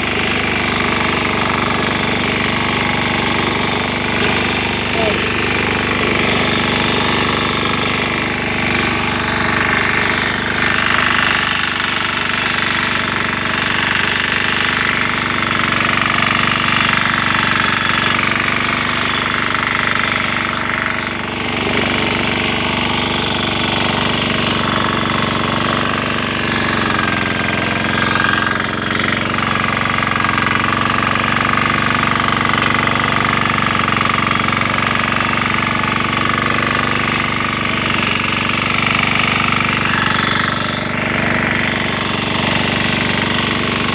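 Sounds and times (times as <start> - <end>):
lawn mower engine running: 0.0 - 43.9.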